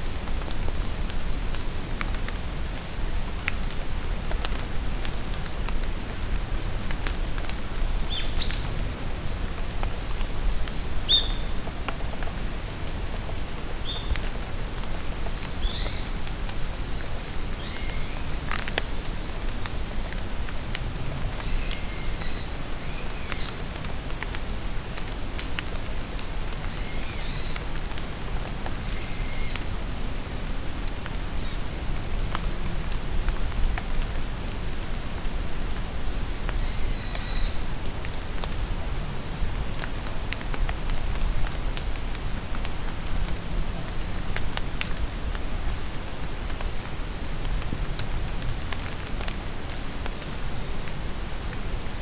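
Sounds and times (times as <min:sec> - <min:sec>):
rain falling in forest: 0:00.0 - 0:52.0.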